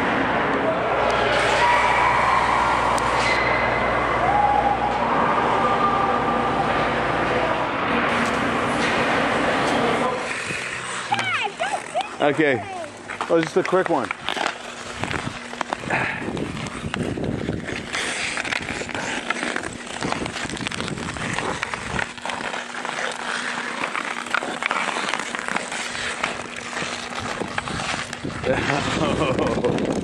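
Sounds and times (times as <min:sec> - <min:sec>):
skates scraping on ice: 0:00.0 - 0:30.0
hockey sticks clacking: 0:00.2 - 0:04.0, 0:08.1 - 0:30.0.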